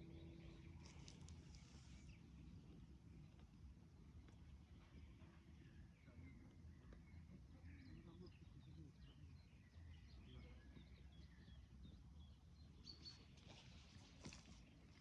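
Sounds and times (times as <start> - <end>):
low steady rumble: 0.0 - 15.0
small birds chirping and warbling: 0.0 - 15.0.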